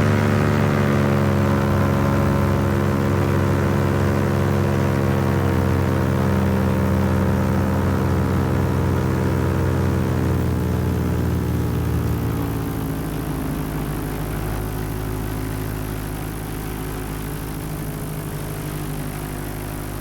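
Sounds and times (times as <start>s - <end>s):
paramotor engine and propeller: 0.0s - 20.0s.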